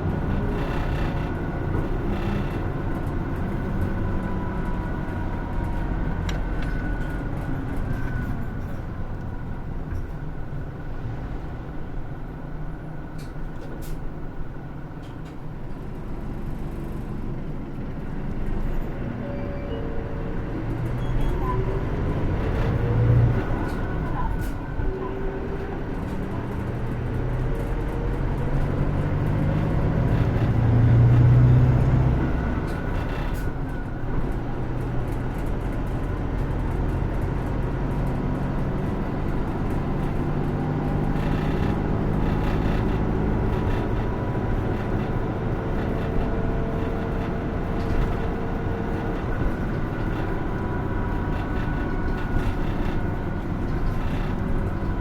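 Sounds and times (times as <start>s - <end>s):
diesel bus engine: 0.0s - 55.0s
road noise: 0.0s - 55.0s.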